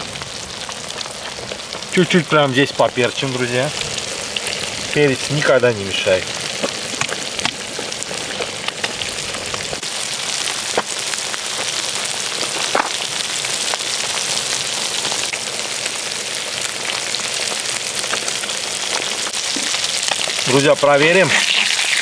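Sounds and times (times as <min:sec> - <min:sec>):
fish sizzling in a frying pan: 0:00.0 - 0:22.0
oil crackling and popping: 0:00.0 - 0:22.0.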